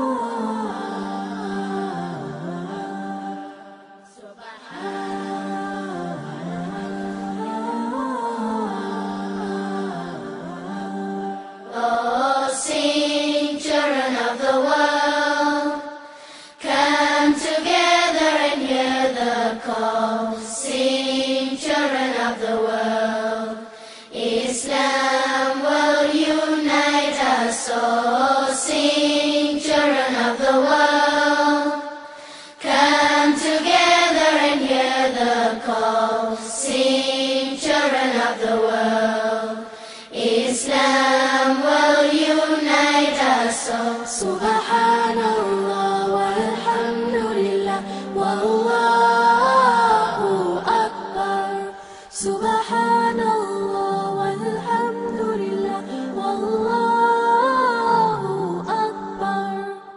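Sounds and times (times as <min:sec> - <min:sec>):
person chanting: 0:00.0 - 0:59.9.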